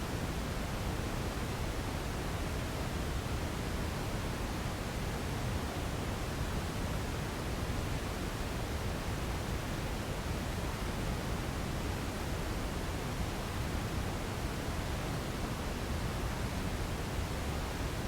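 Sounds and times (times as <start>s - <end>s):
steady low-heavy hiss noise: 0.0s - 18.0s.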